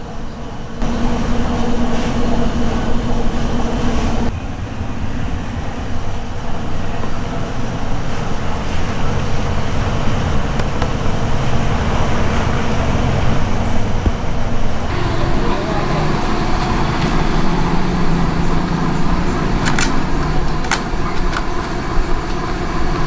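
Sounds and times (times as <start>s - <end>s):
loud motor vehicle rumble: 0.0s - 23.0s.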